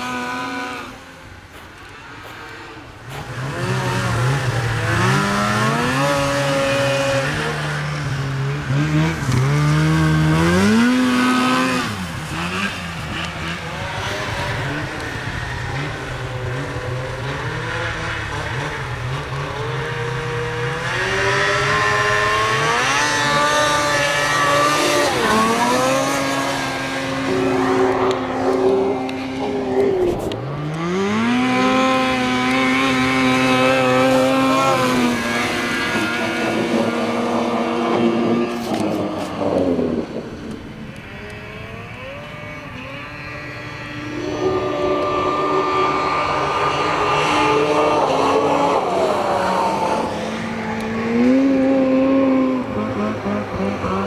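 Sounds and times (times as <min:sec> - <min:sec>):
snowmobile engines revving: 0:00.0 - 0:54.0.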